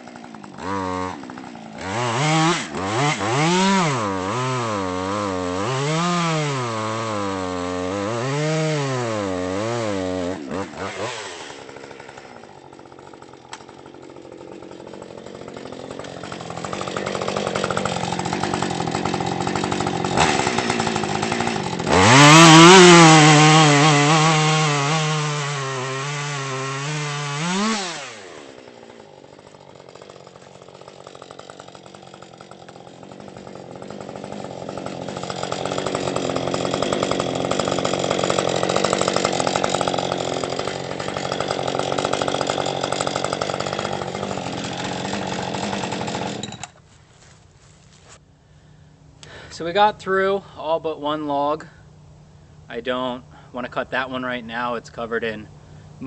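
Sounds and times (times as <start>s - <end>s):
chainsaw cutting wood: 0.0s - 48.2s.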